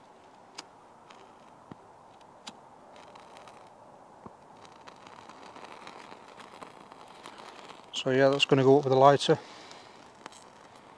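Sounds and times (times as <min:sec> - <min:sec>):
tinder crackling: 0:00.0 - 0:10.9.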